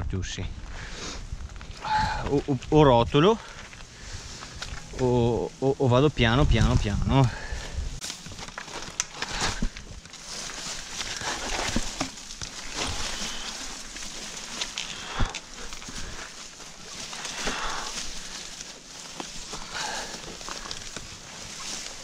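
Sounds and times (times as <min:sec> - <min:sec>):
grass and brush rustling: 0:00.5 - 0:22.0.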